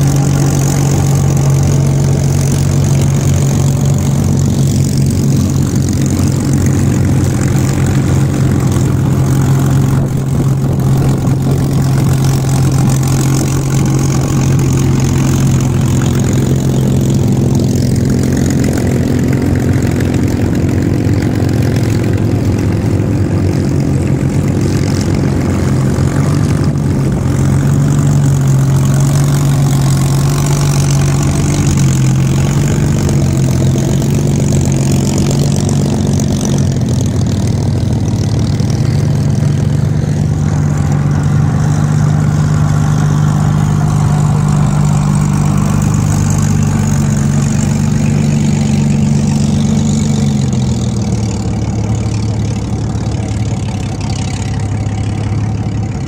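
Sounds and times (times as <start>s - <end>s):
propeller plane engines droning: 0.0s - 56.0s.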